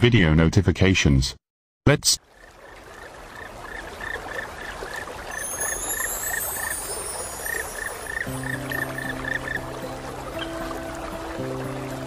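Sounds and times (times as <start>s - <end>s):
flowing water: 2.2s - 12.0s
frogs croaking: 2.2s - 12.0s.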